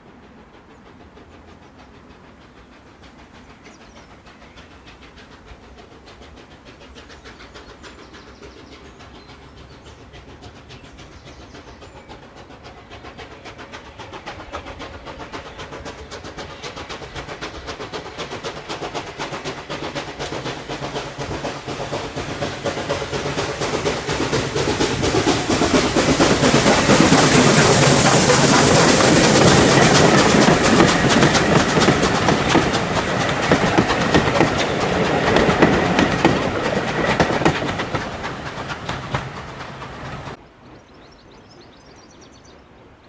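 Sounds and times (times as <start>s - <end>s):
steam train passing: 0.0s - 43.0s
wheels clicking over rail joints: 0.6s - 40.4s.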